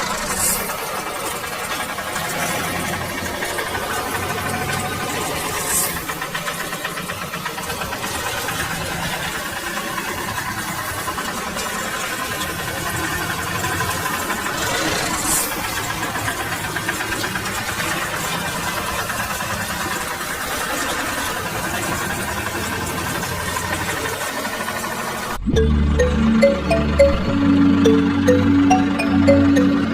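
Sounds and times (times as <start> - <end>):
engine rattling: 0.0 - 29.9.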